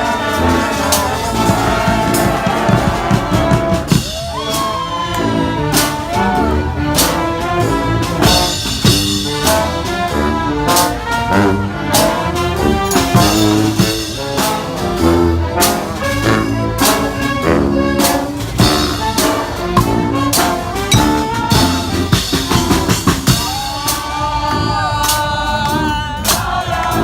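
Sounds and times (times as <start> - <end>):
drum and cymbal hits: 0.0 - 5.0, 6.8 - 27.0
marching drum beat: 0.0 - 5.0, 6.8 - 24.2
brass band playing: 0.0 - 27.0.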